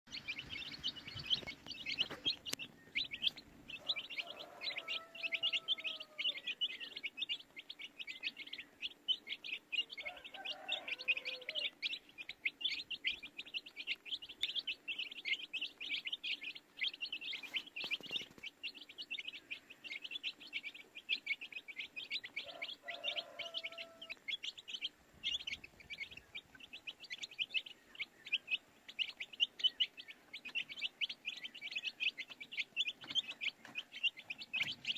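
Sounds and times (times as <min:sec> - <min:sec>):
baby chicks cheeping: 0:00.1 - 0:34.9.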